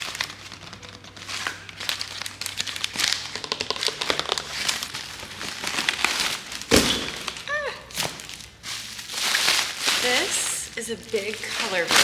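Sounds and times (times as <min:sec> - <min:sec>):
packing material crumpling: 0:00.0 - 0:12.0.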